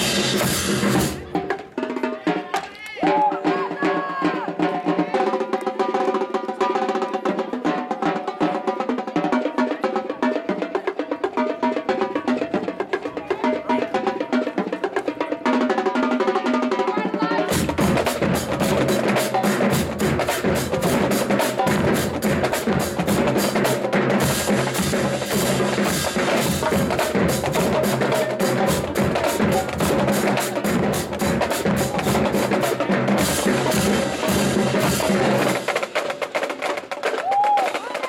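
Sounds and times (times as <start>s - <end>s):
snare drums: 0.0s - 38.0s.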